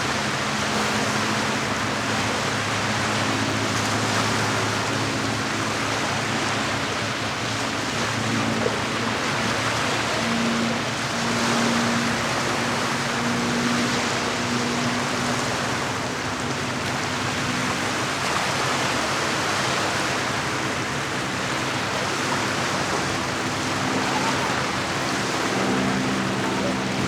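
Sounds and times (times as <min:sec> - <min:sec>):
lake water washing on shore: 0:00.0 - 0:27.0.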